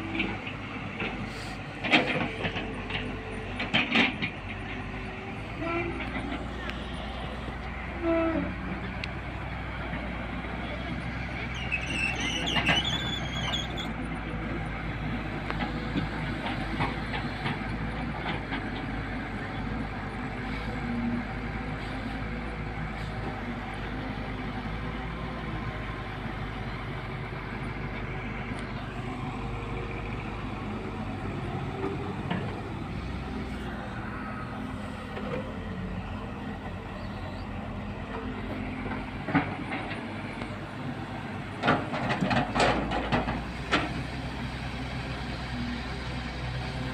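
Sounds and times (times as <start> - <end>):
excavator engine droning: 0.0 - 46.9.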